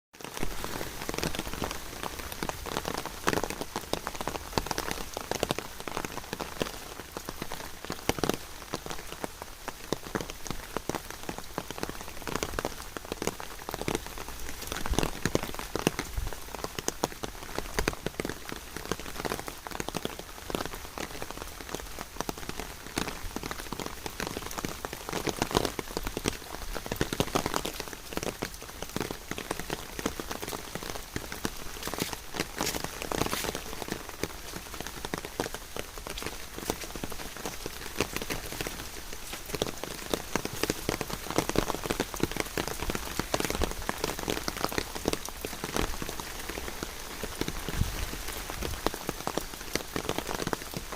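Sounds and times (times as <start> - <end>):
rain drops striking: 0.1 - 50.9.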